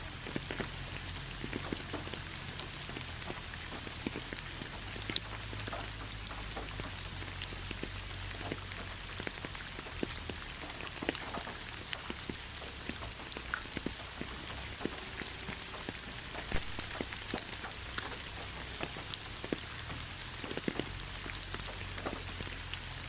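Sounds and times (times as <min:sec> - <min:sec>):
rain pattering: 0:00.0 - 0:23.0.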